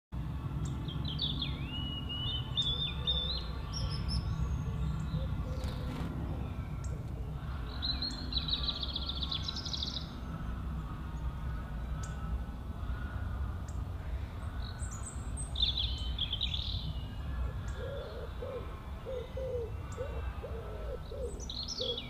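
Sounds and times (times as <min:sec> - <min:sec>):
birds whistling and trilling: 0:00.6 - 0:22.0.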